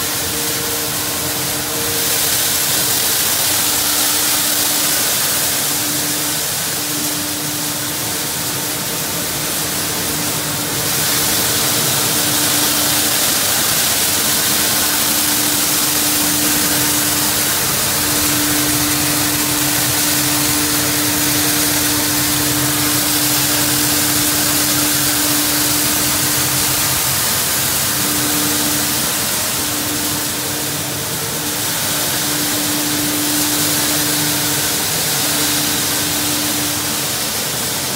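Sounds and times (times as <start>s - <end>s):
motor hum: 0.0s - 37.9s.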